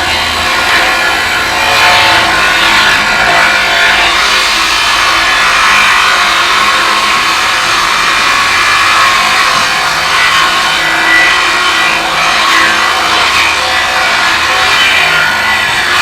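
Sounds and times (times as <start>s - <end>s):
angle grinder cutting pipe: 0.0s - 16.0s.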